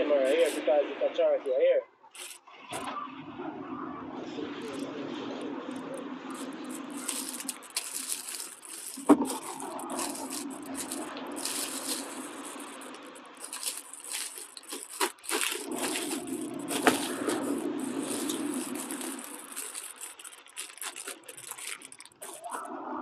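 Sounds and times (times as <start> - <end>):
plastic bottles handled: 0.0 - 0.6, 2.1 - 2.9, 4.6 - 22.7
plastic bags crinkling: 0.2 - 0.6, 2.1 - 2.9, 4.6 - 22.7.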